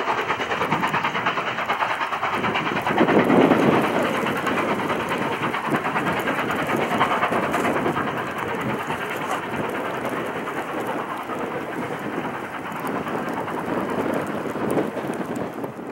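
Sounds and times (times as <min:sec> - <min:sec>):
blizzard wind roaring: 0:00.0 - 0:15.9
train rumbling: 0:00.0 - 0:15.9.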